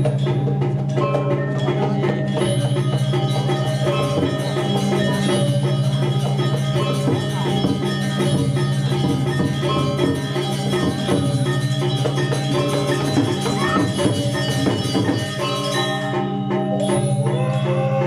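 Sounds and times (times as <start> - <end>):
gamelan metallophones ringing: 0.0 - 18.0.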